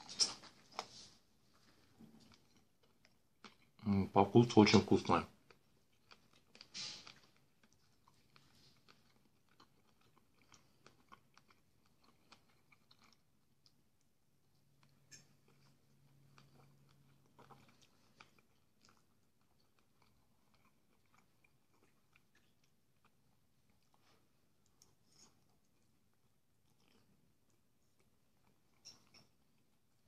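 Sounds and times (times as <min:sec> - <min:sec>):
close-up chewing: 0:00.0 - 0:30.0.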